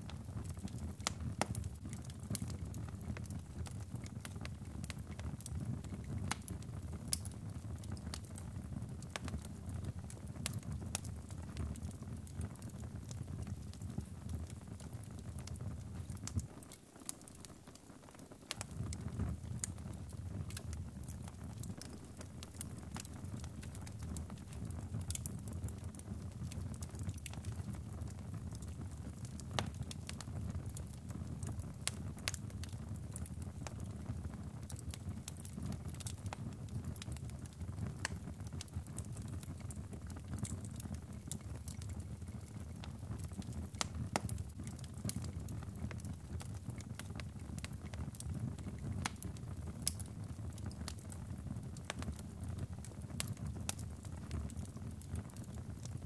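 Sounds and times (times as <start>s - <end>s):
fire crackling and popping: 0.0s - 56.0s
fire rumbling in a fireplace: 0.0s - 56.0s.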